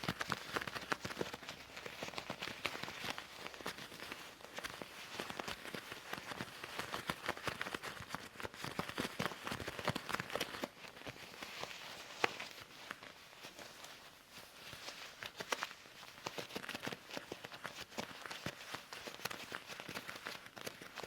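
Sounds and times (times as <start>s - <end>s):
leather gloves rubbing and rustling: 0.0s - 21.0s.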